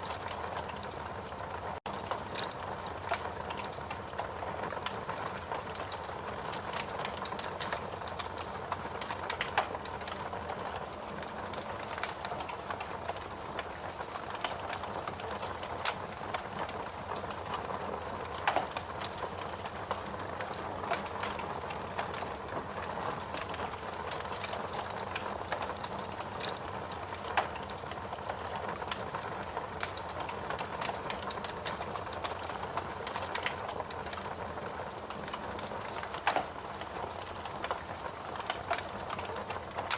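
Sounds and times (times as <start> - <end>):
log fire crackling and popping: 0.0 - 39.9.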